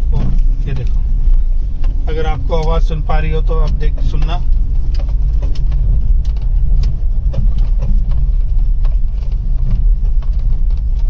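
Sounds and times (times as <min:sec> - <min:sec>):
car driving road rumble: 0:00.0 - 0:11.0
suspension knocks and clicks: 0:00.0 - 0:11.0.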